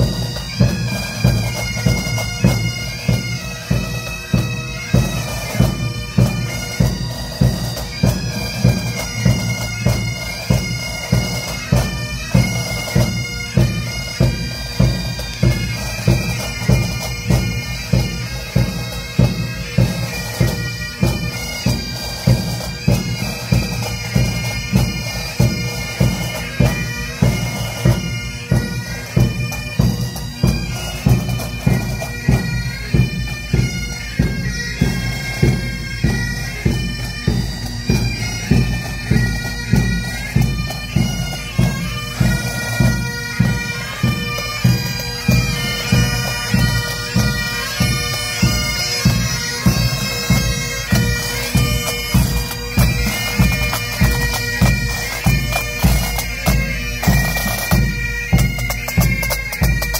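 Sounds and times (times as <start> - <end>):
bagpipes playing melody: 0.0 - 59.9
regular drum beat: 0.0 - 59.9.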